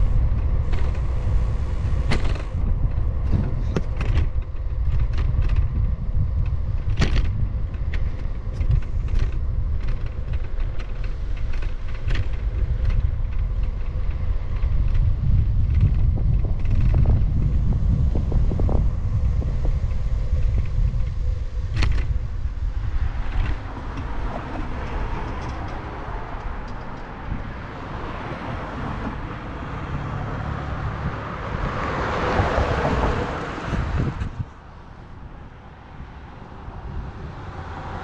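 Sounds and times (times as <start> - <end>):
low road rumble: 0.0 - 38.0
wind buffeting microphone: 0.0 - 38.0
car passing: 7.4 - 38.0.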